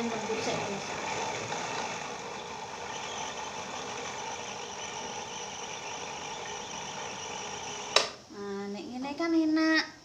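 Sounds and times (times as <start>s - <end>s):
electric food chopper motor: 0.0s - 8.2s.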